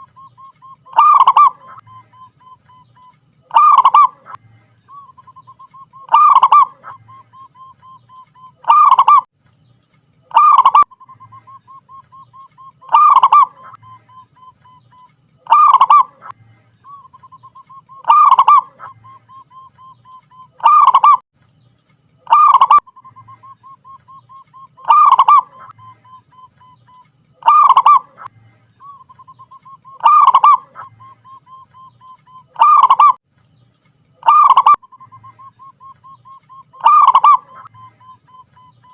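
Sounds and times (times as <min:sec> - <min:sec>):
dove cooing: 0:00.0 - 0:09.3, 0:10.3 - 0:21.2, 0:22.3 - 0:33.2, 0:34.2 - 0:38.9.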